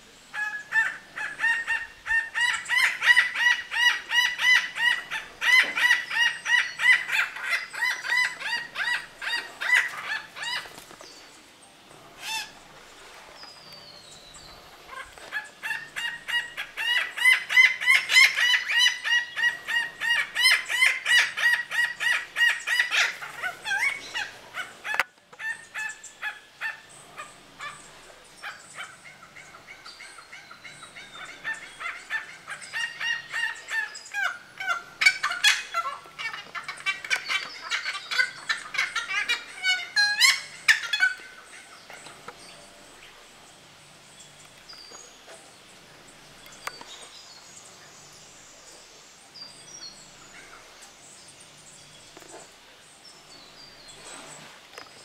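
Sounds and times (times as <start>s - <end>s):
birds calling harshly: 0.2s - 55.0s.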